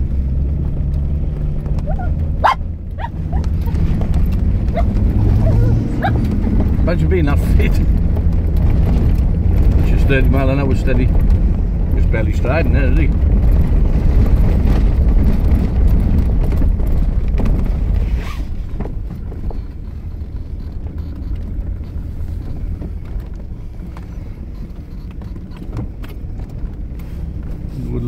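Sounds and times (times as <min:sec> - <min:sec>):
vehicle engine and drive noise: 0:00.0 - 0:28.0.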